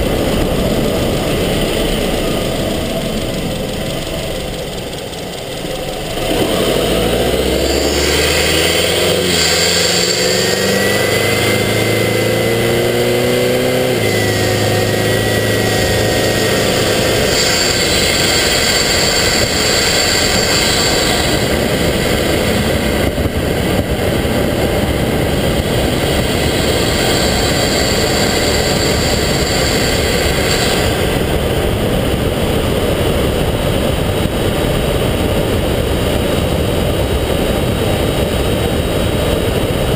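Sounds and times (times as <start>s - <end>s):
rushing air and road noise: 0.0s - 39.9s
turbocharged engine revving: 0.0s - 39.9s.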